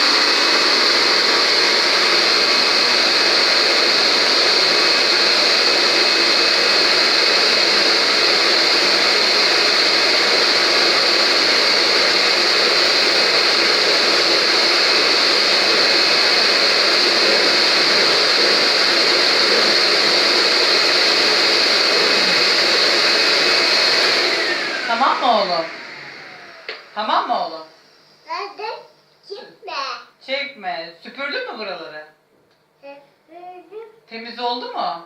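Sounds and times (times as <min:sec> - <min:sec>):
vacuum cleaner running: 0:00.0 - 0:28.8.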